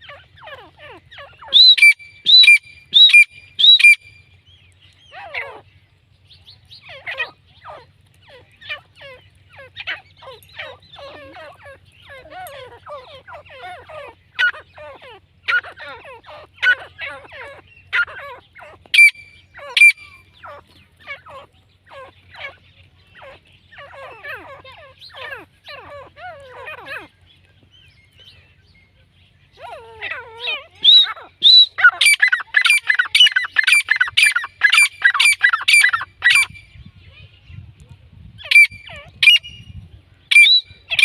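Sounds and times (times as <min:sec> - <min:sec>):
bird calling: 0:00.0 - 0:41.0.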